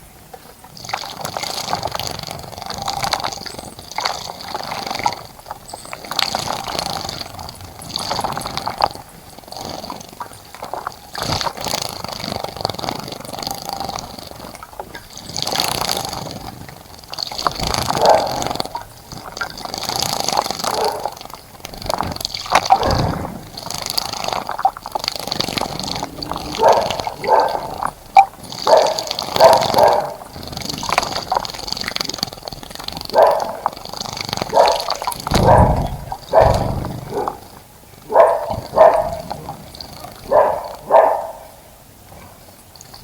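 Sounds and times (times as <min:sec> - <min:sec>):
birds splashing water: 0:00.6 - 0:43.0.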